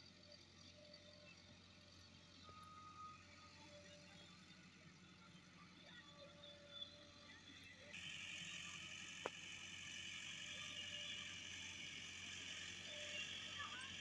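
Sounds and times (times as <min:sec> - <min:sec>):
distant tractor engine hum: 0:00.0 - 0:14.0.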